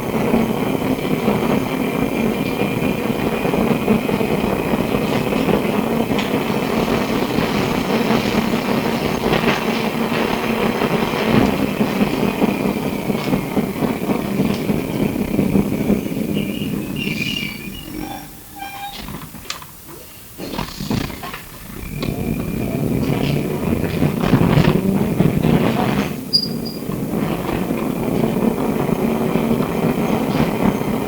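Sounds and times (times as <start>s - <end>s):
tram motor high whine: 0.0s - 31.0s
tram running noise: 0.0s - 31.0s.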